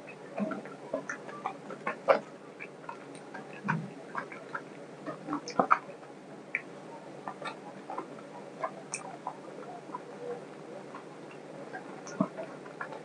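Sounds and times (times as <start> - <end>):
person chewing with wet smacks: 0.1 - 13.0.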